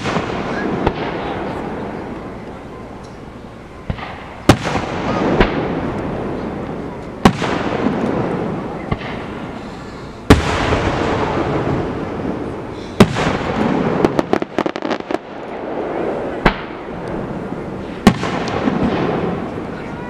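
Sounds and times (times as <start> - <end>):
fireworks booming: 0.0 - 20.0
fireworks cracking: 0.0 - 20.0
rolling echo: 0.0 - 20.0.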